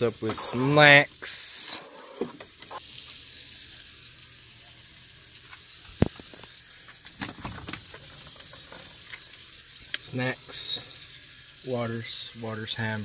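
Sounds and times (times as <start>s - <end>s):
steady hissing noise: 0.0s - 13.0s.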